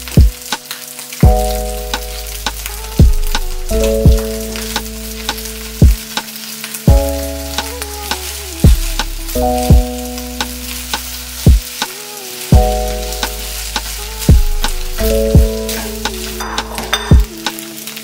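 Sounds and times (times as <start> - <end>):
electronic music with steady beat: 0.0 - 17.9
rice sizzling in a pan: 0.0 - 18.0.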